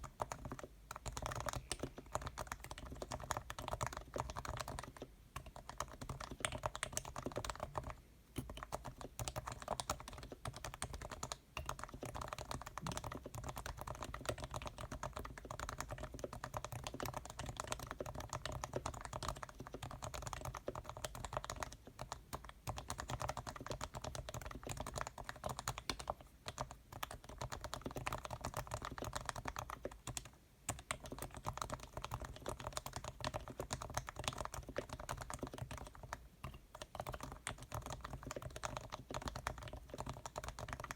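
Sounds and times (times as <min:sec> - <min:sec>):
fast typing on keyboard: 0:00.0 - 0:40.9.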